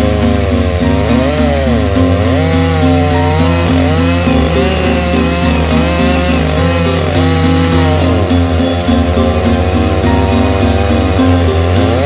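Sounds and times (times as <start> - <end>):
background music: 0.0 - 12.0
chainsaw cutting log: 0.0 - 12.0.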